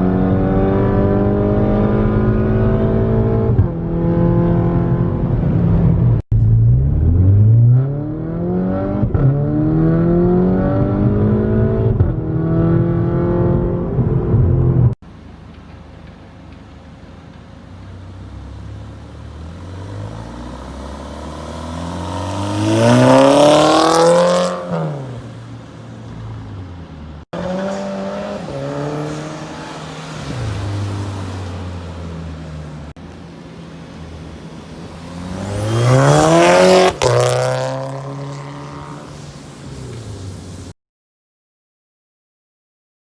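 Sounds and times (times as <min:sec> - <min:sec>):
car engine revving: 0:00.0 - 0:40.7.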